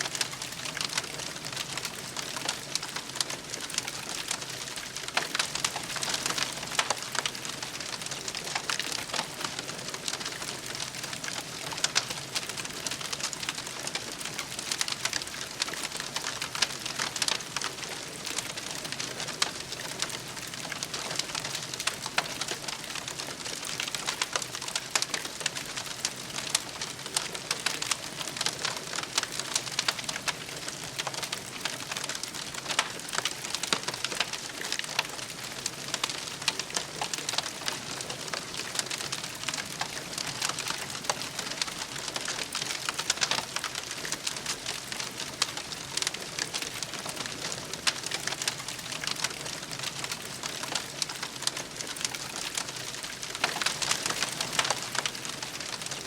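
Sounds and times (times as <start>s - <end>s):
campfire crackling: 0.0s - 56.0s
fire popping: 0.1s - 56.0s.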